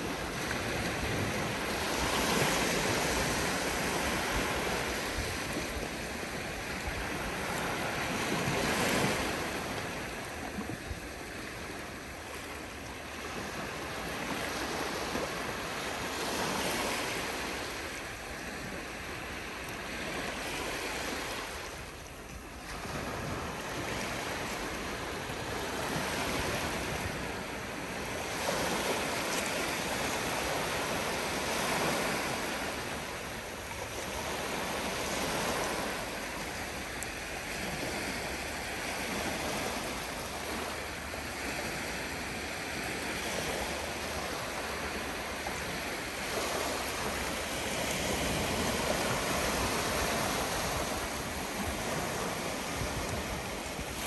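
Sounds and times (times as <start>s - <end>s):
small waves breaking on shore: 0.0s - 54.0s.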